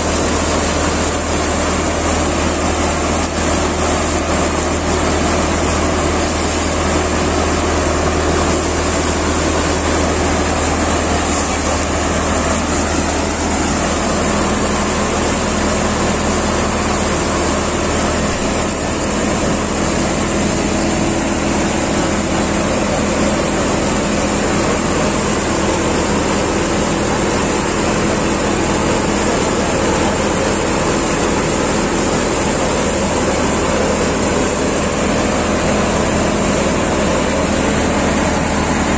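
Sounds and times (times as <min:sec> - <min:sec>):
thresher machine humming: 0:00.0 - 0:38.9.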